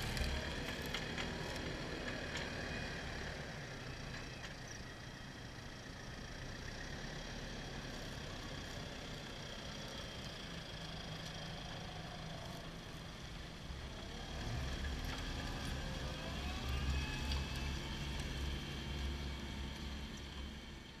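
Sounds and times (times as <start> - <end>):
tractor engine running under load: 0.0 - 21.0.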